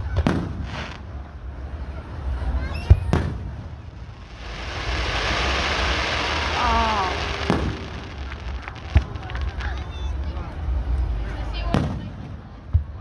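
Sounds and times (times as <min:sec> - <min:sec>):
firework bang: 0:00.0 - 0:01.3, 0:02.6 - 0:13.0
fireworks crackling: 0:00.0 - 0:13.0.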